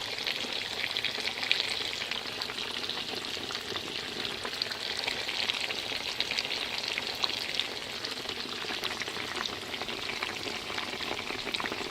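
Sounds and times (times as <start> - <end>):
meat sizzling in a frying pan: 0.0 - 11.9.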